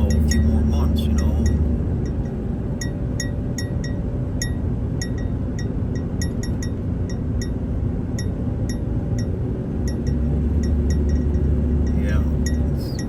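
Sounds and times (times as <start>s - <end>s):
vehicle driving rumble: 0.0s - 13.0s.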